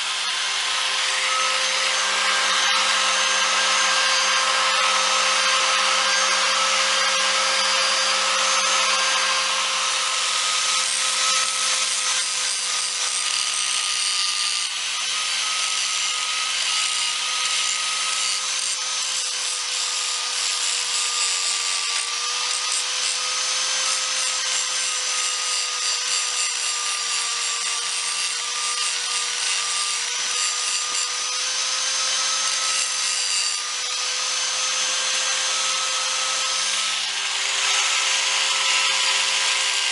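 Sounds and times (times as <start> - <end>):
electric grinder grinding steel: 0.0 - 39.9.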